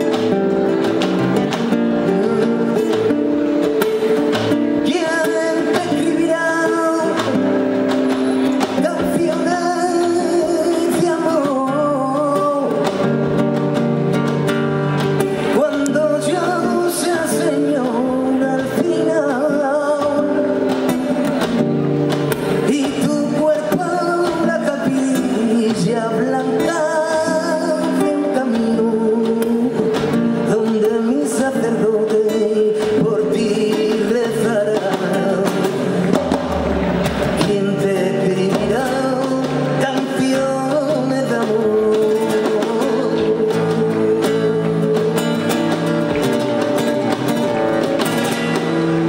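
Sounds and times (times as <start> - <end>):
acoustic guitar strummed and plucked: 0.0 - 49.0
man singing: 0.0 - 49.0.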